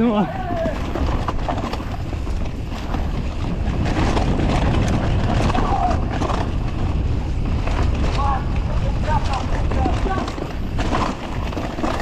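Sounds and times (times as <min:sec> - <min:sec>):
bike clattering over rough ground: 0:00.0 - 0:12.0
wind buffeting microphone: 0:00.0 - 0:12.0.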